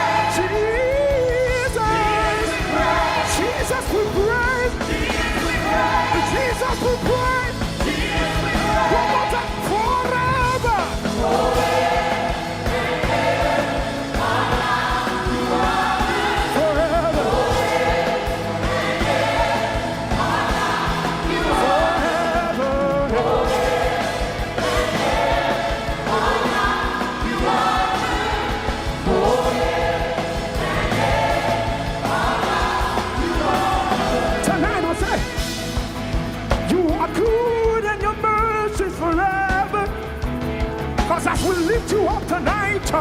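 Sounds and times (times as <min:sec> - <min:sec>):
choir and congregation singing: 0:00.0 - 0:37.0
live band with drum beat: 0:00.0 - 0:43.0.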